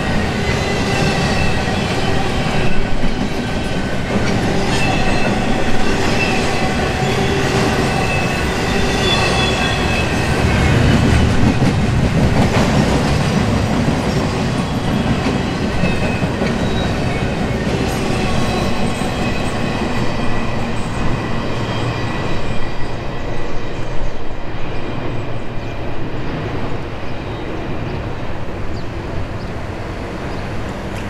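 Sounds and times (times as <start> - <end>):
train wheels clattering on rails: 0.0 - 25.2.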